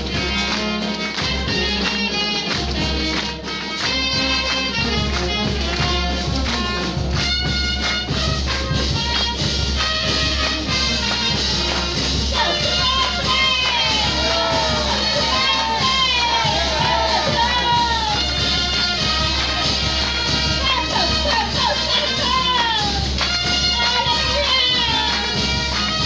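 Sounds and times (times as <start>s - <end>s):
live band playing worship song: 0.0s - 26.0s.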